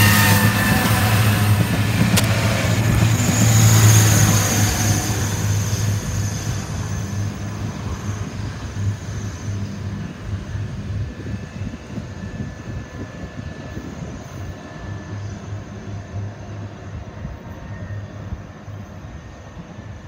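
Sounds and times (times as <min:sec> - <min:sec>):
train rumble receding: 0:00.0 - 0:20.0.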